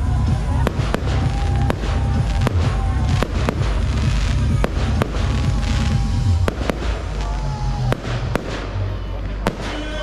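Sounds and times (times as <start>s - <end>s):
fireworks bursting with bangs: 0.0s - 10.0s.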